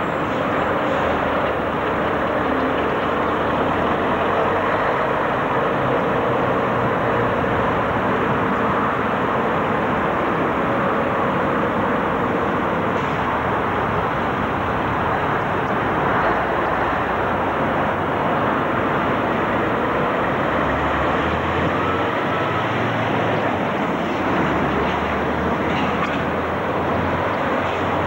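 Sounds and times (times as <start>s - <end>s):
lorry diesel engine rumble: 0.0s - 28.0s
traffic noise: 0.0s - 28.0s.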